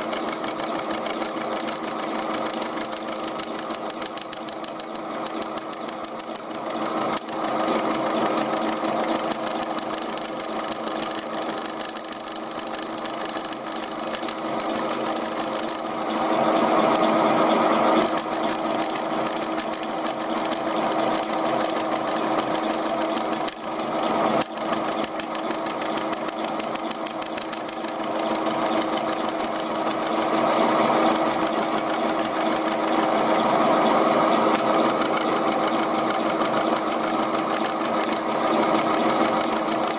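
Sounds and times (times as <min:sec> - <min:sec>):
end mill grinding tinplate: 0:00.0 - 0:39.9
milling machine motor humming: 0:00.0 - 0:39.9.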